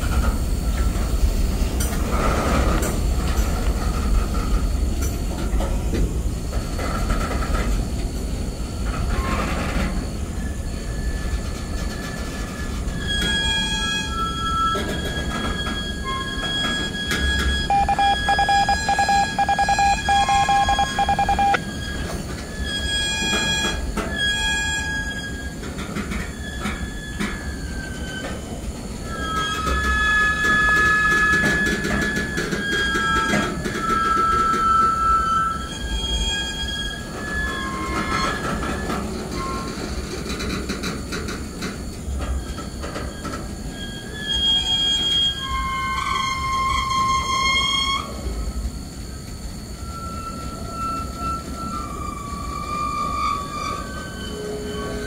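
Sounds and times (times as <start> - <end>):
train wheels rumbling on rail: 0.0 - 17.8, 19.2 - 55.0
train wheels squealing: 0.1 - 55.0.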